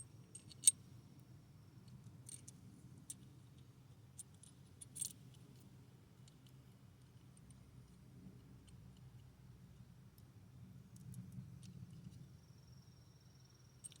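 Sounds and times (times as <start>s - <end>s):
faint steady low hum: 0.0s - 14.0s.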